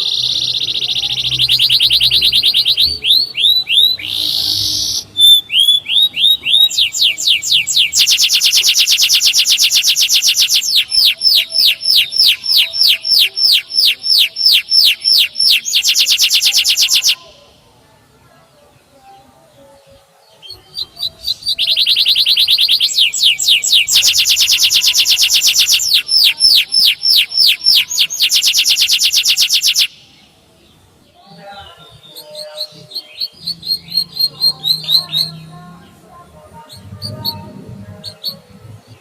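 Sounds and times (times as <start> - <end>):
canary singing: 0.0 - 17.6, 18.9 - 39.0.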